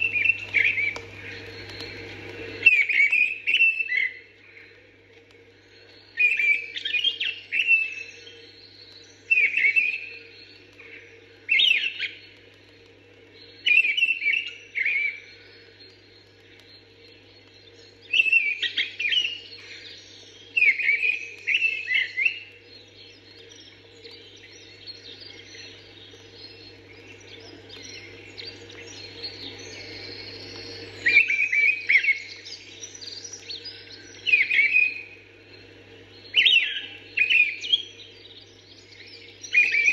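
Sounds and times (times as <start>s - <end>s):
birds twittering faintly: 0.0s - 39.9s
steady low hum: 0.0s - 39.9s.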